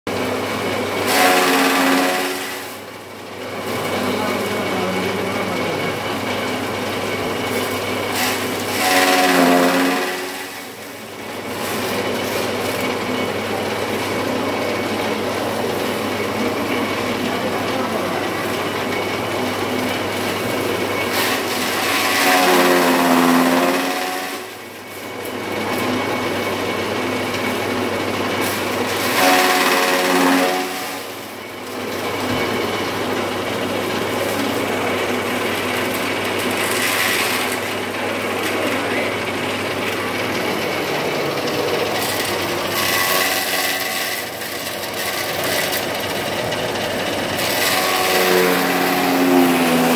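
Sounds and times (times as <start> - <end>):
chaff cutter motor humming: 0.1 - 49.9.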